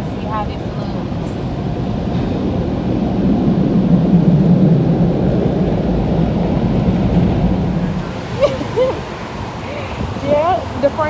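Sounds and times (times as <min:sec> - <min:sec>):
car wash machinery rumbling: 0:00.0 - 0:11.0.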